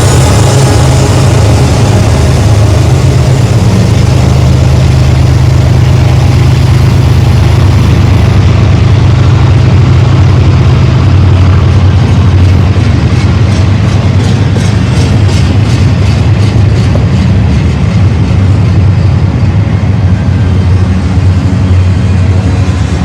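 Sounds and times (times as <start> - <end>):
freight train diesel engines passing: 0.0 - 23.0.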